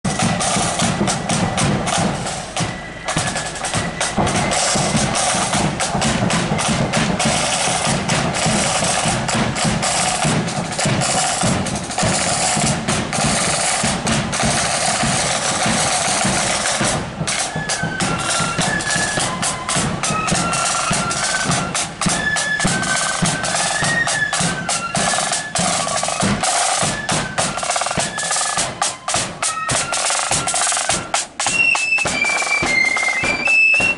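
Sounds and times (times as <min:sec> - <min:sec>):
side drums and bass drum: 0:00.0 - 0:33.9
flutes playing tune: 0:00.1 - 0:33.9.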